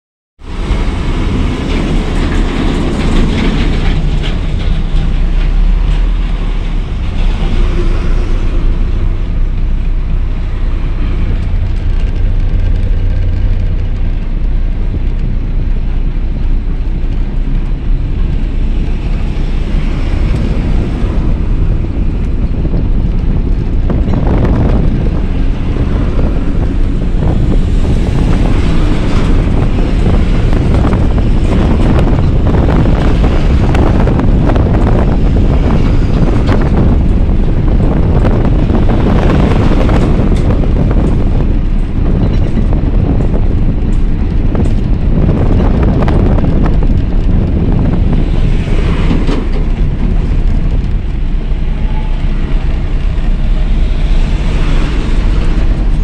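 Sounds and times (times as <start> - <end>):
truck engine and road rumble: 0.4 - 56.0.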